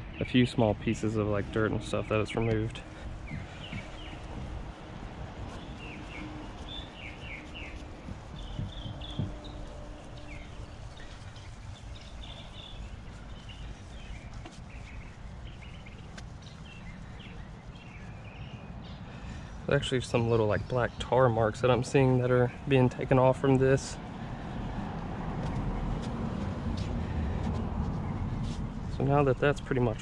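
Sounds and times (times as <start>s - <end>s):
birds chirping: 0.0s - 30.0s
low outdoor rumble: 0.0s - 30.0s.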